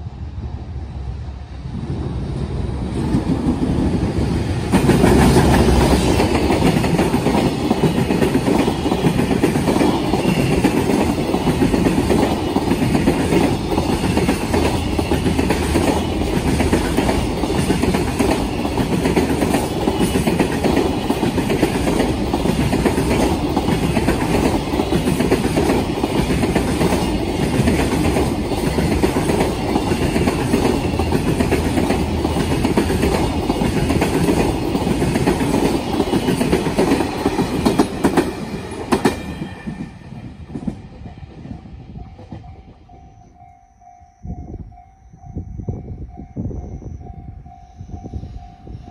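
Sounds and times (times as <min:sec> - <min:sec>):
freight train wagons rumbling: 0:00.0 - 0:48.8
wheels clickety-clack on rail joints: 0:02.4 - 0:43.1.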